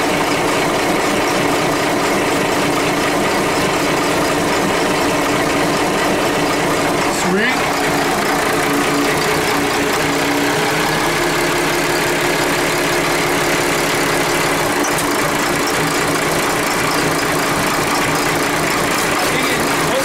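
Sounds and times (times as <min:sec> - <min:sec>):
diesel marine engine idling: 0:00.0 - 0:20.0.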